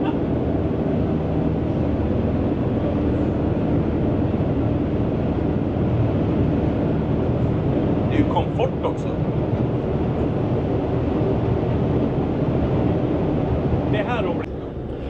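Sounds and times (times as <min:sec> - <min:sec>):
boat diesel engines droning: 0:00.0 - 0:15.0.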